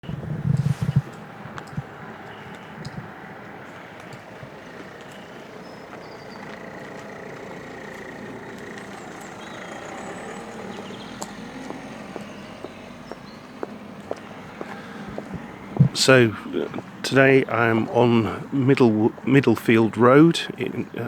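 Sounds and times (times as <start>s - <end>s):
traffic noise: 0.0s - 21.0s
vehicle passing by: 0.0s - 21.0s.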